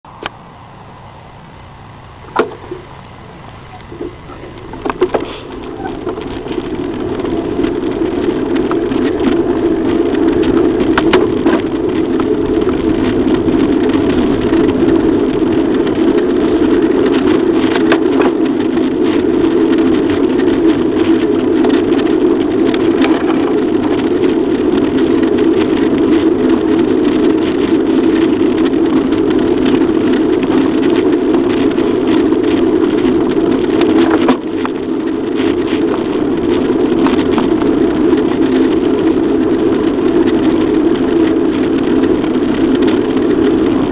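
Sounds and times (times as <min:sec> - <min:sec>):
wind and bicycle tyre noise: 0:00.0 - 0:43.9
bicycle clicks and rattles: 0:02.2 - 0:43.9.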